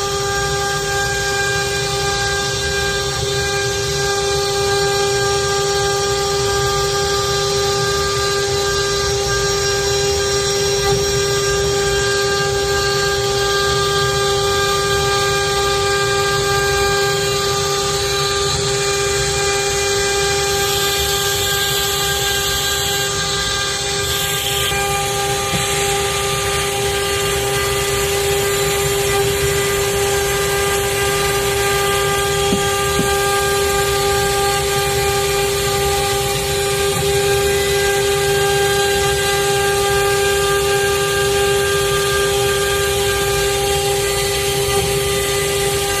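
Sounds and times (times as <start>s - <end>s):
router bit cutting wood: 0.0s - 46.0s
router spindle whine: 0.0s - 46.0s.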